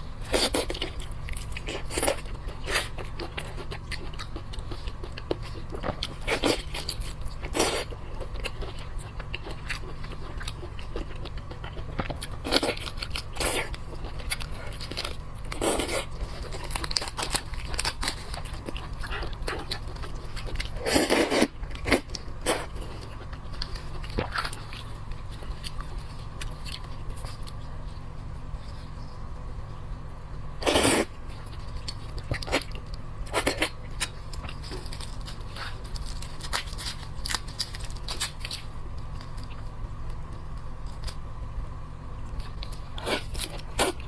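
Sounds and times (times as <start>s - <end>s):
crunching and wet chewing: 0.0s - 44.0s
steady low hum: 0.0s - 44.0s.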